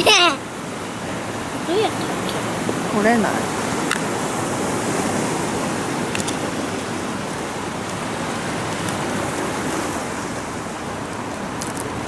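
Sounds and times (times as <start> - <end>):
sea surf washing on a beach: 0.0 - 12.0.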